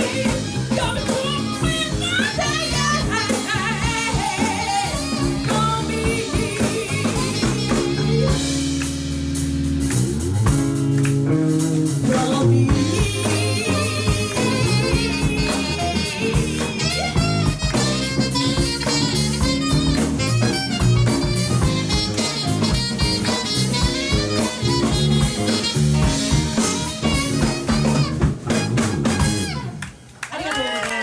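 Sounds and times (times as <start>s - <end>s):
saxophone melody: 0.0s - 9.1s, 12.6s - 29.9s
guitar melody: 0.0s - 29.8s
bass line: 0.0s - 29.9s
drum kit with cymbals: 0.0s - 30.1s.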